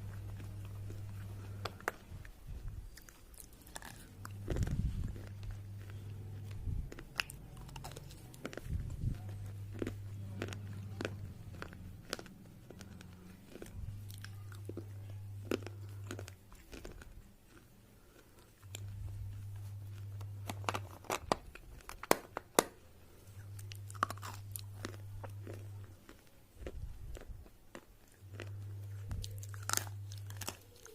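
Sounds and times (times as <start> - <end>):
low hum: 0.0 - 22.1, 22.9 - 30.9
slate pencils crunching when chewed: 0.0 - 30.9.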